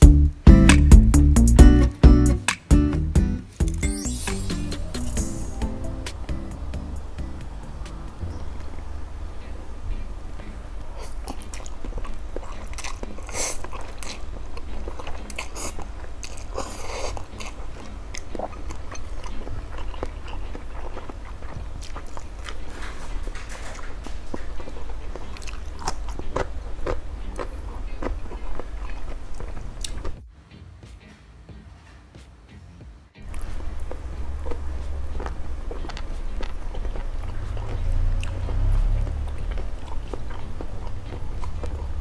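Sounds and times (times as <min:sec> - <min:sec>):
steady low hum: 0:00.0 - 0:30.2, 0:33.2 - 0:42.0.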